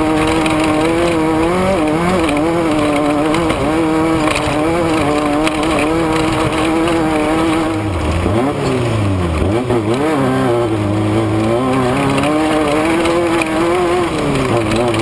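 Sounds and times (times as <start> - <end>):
race vehicle engine revving: 0.0 - 15.0.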